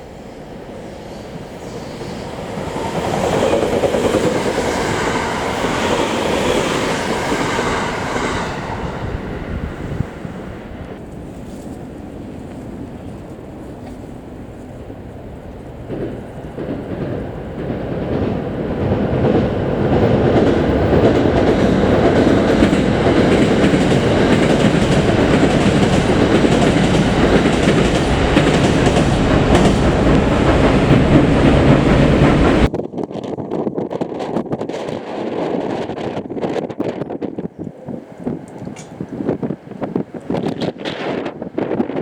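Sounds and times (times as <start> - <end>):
electric train running past: 0.0 - 33.1, 34.3 - 42.0.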